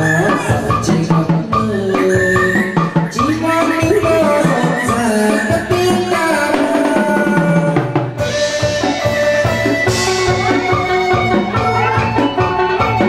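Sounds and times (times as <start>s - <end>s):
steady drum strokes: 0.0s - 13.0s.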